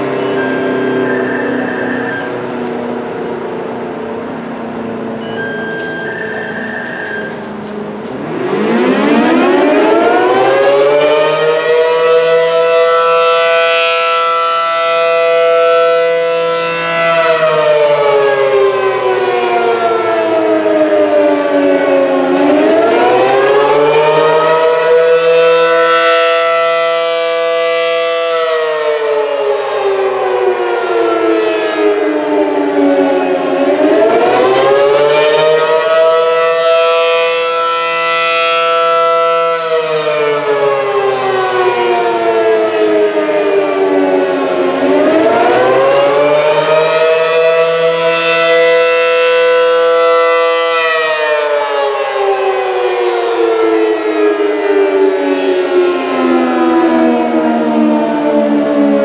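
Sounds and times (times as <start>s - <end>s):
rotating warning siren wailing: 0.0s - 59.0s.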